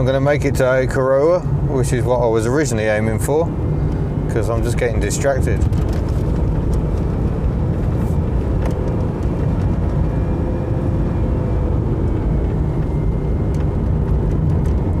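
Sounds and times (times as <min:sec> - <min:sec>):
car engine revving: 0:00.0 - 0:15.0
road noise: 0:00.0 - 0:15.0.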